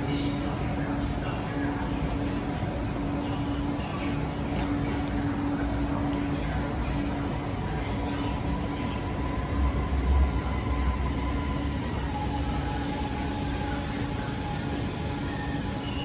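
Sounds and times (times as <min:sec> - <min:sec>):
train hum and whine: 0:00.0 - 0:16.0
train rumble: 0:00.0 - 0:16.0.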